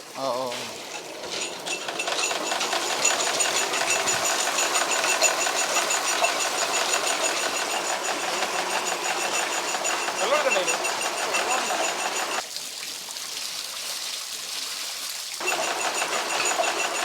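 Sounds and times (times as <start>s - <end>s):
water pump motor chattering: 0.0s - 12.4s, 15.4s - 17.0s.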